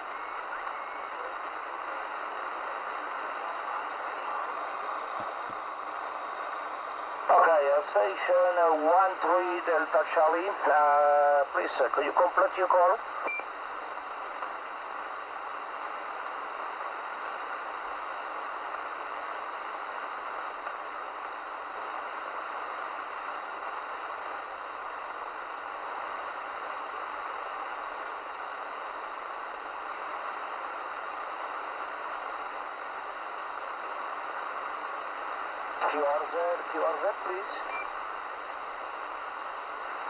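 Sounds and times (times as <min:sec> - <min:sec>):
radio static hissing: 0:00.0 - 0:40.0.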